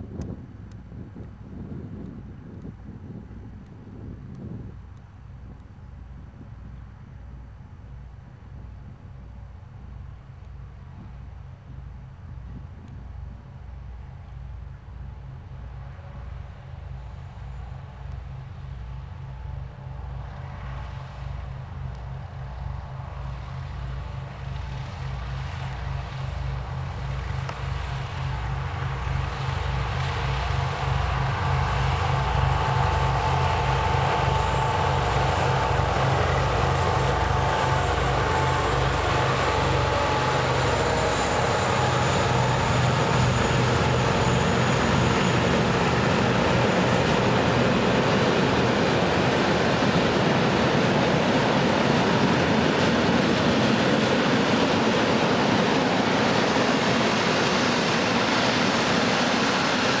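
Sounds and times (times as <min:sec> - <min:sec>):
locomotive engine throb and whine: 0:05.3 - 1:00.0.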